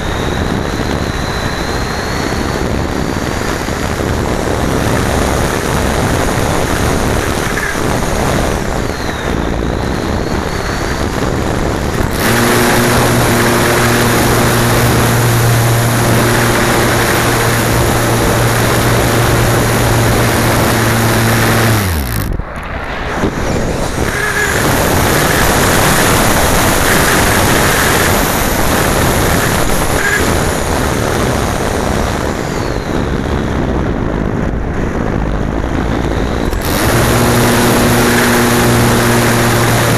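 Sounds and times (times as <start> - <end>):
steady low hum: 0.0 - 39.9
wind rushing over camera: 0.0 - 39.9.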